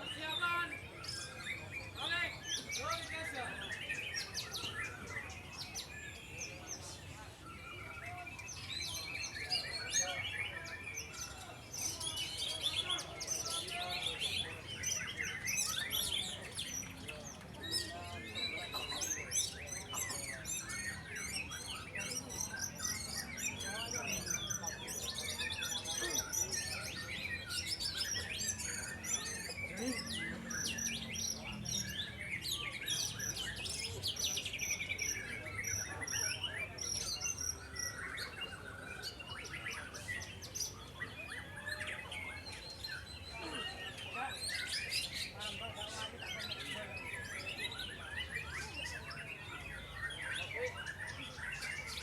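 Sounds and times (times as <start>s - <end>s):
birds singing whistles and trills: 0.0s - 52.0s.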